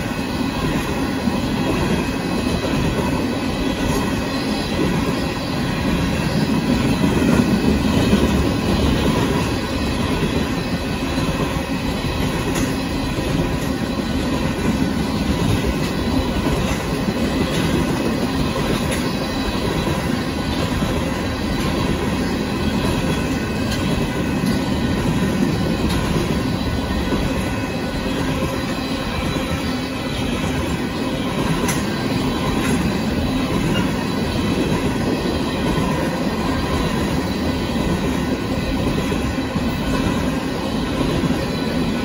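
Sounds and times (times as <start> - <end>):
freight train rolling past: 0.0 - 42.0
steel wheels clattering on rails: 0.0 - 42.0.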